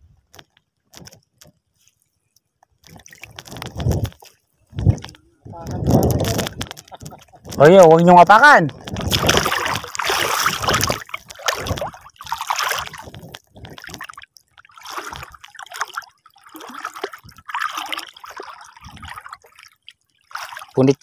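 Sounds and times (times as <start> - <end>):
people wading through water: 2.8 - 21.0.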